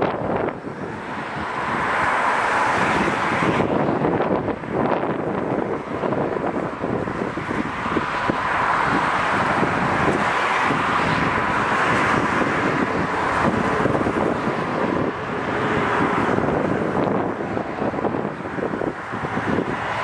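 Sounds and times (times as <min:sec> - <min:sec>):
diesel locomotive and train approaching: 0:00.0 - 0:20.0
wind buffeting microphone: 0:00.0 - 0:20.0.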